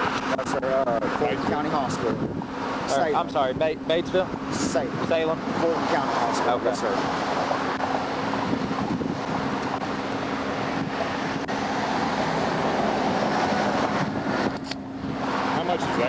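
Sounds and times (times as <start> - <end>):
highway traffic rushing past: 0.0 - 16.0
truck passing: 0.0 - 16.0
wind buffeting microphone: 0.0 - 16.0.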